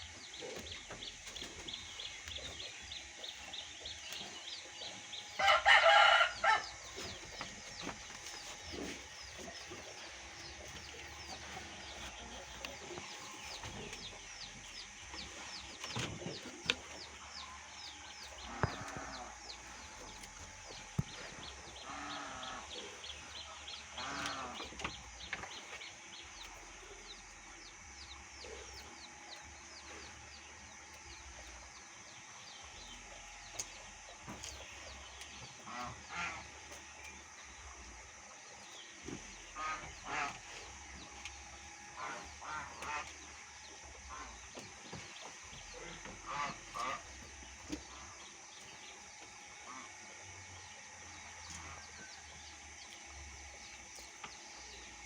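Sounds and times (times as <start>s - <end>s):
farm animals calling: 0.0s - 55.0s
steady background hum: 0.0s - 55.0s.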